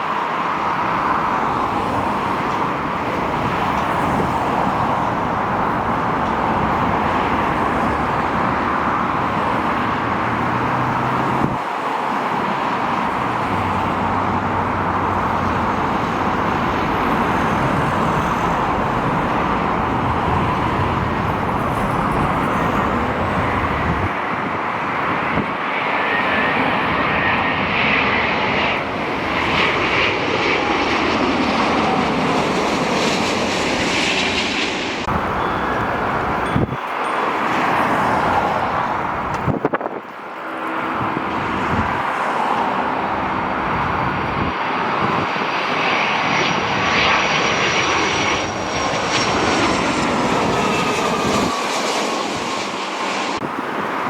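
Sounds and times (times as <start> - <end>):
jet engine rumble: 0.0 - 54.0.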